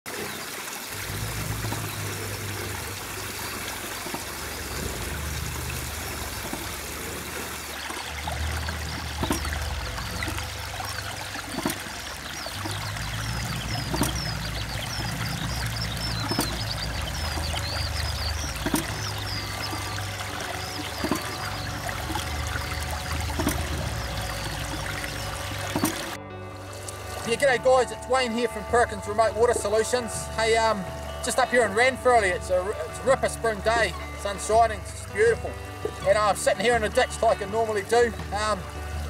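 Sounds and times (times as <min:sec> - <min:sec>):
water pouring and trickling: 0:00.1 - 0:39.0
pump knocking: 0:00.9 - 0:28.2, 0:33.2 - 0:39.0.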